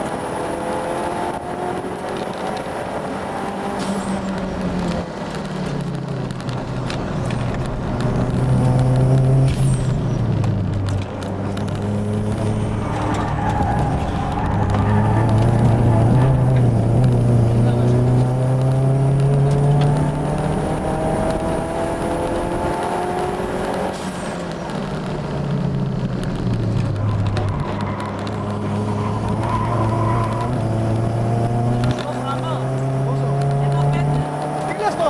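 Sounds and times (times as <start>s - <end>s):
car engine revving with gear changes: 0.0s - 35.0s.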